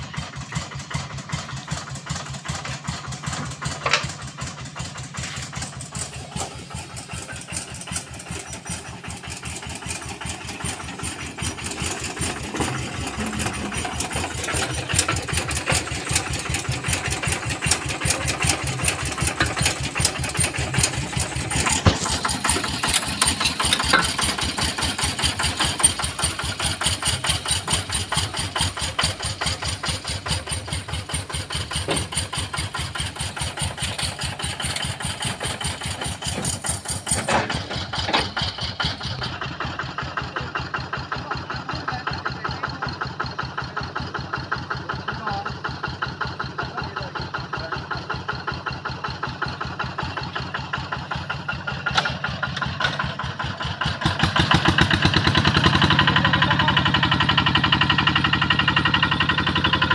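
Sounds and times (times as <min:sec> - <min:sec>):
combine harvester engine chugging: 0:00.0 - 0:59.9.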